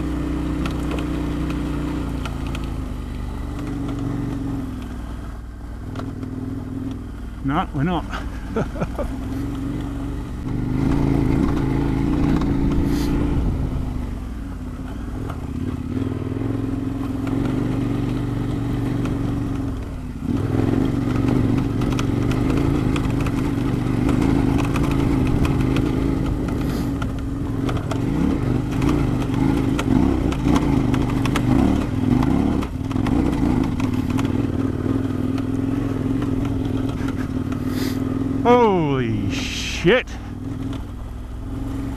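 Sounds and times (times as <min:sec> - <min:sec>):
motorcycle engine revving under load: 0:00.0 - 0:07.1, 0:08.1 - 0:39.0, 0:40.2 - 0:41.9.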